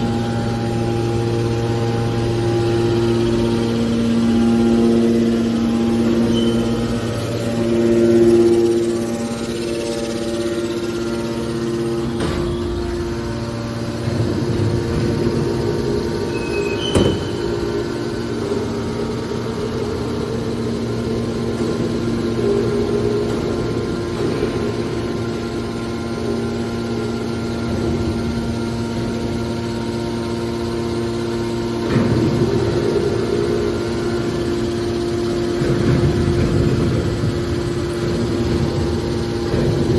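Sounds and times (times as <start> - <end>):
baler pump motor hum: 0.0 - 39.9.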